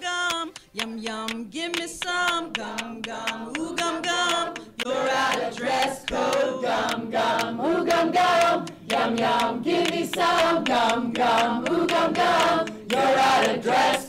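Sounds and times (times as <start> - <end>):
hand claps: 0.0 - 14.0
group singing a cappella: 0.8 - 14.0.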